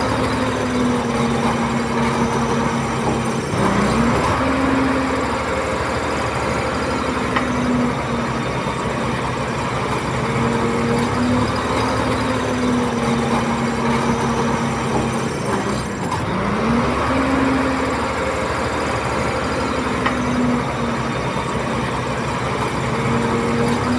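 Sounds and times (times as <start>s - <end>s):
diesel engine of heavy machinery: 0.0s - 23.9s.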